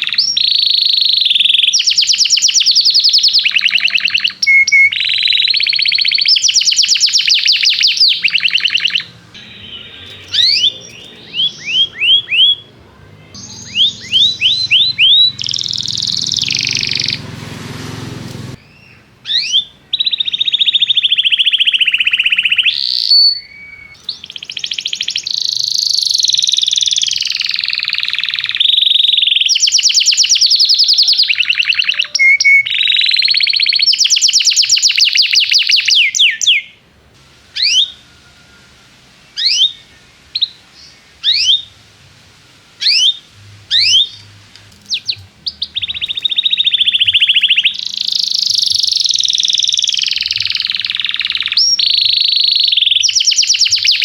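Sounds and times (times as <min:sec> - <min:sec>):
canary sharp rising chirps: 0:00.0 - 0:36.8, 0:37.4 - 0:41.8, 0:42.5 - 0:54.0
canary trilling: 0:00.0 - 0:36.8, 0:37.5 - 0:41.7, 0:42.8 - 0:54.0.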